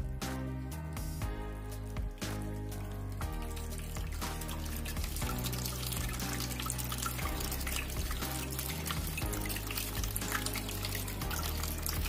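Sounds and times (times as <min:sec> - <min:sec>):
background music: 0:00.0 - 0:12.0
fountain water trickling: 0:01.6 - 0:12.0.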